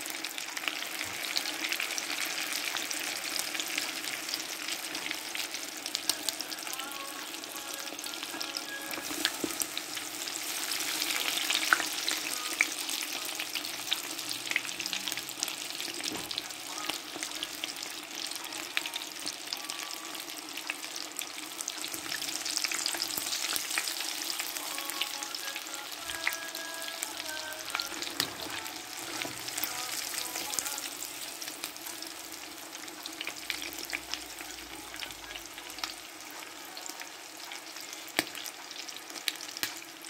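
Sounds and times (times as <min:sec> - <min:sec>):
batter deep-frying in oil: 0:00.0 - 0:40.0.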